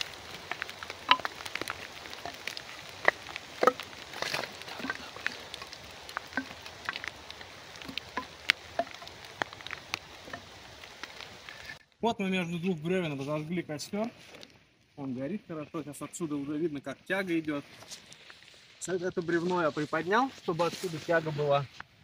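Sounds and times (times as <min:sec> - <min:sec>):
fire light hiss: 0:00.0 - 0:11.8, 0:12.8 - 0:22.0
kindling fire crackling: 0:00.0 - 0:22.0.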